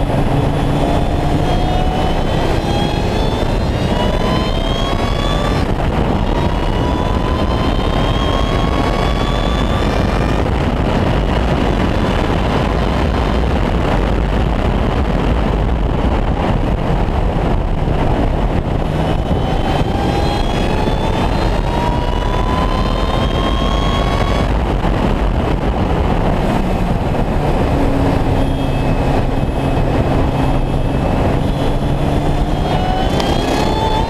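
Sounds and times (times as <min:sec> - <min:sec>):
car engine revving high: 0:00.0 - 0:15.4, 0:16.1 - 0:34.0
wind rush: 0:00.0 - 0:34.0.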